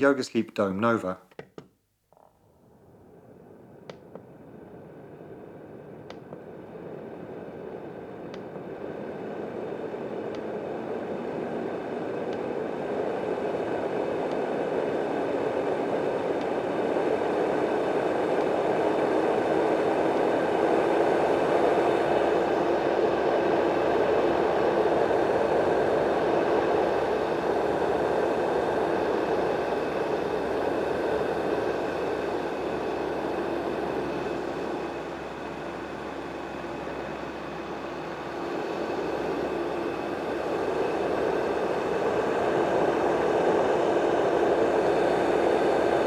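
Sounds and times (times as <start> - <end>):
faint motor hum: 0.0 - 46.0
white noise machine fan rush: 2.5 - 46.0.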